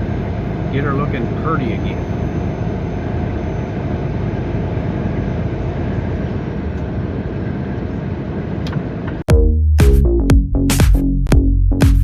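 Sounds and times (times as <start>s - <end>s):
truck engine and road noise: 0.0s - 11.6s.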